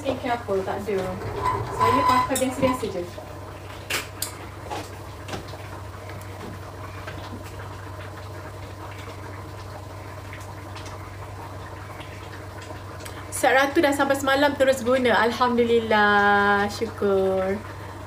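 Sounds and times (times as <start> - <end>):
curry bubbling in a pan: 0.0 - 18.0.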